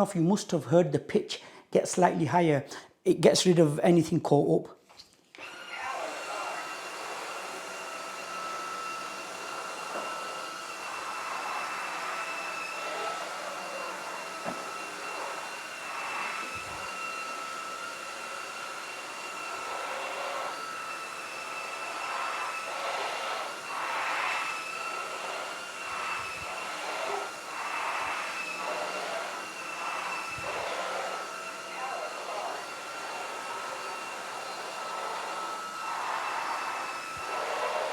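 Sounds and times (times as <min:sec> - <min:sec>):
floor cleaner motor whine: 0:05.4 - 0:37.9
suction and brush-roller noise: 0:05.4 - 0:37.9.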